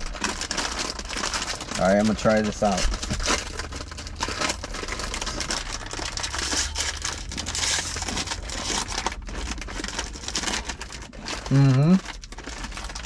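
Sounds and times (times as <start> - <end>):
plastic wrapper crackling: 0.0 - 13.0.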